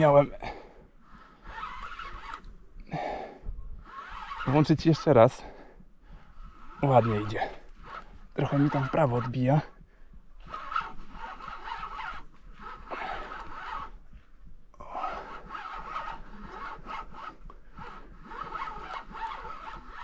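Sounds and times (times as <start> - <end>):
fishing reel whirring: 0.0 - 5.6, 6.2 - 9.8, 10.4 - 20.0.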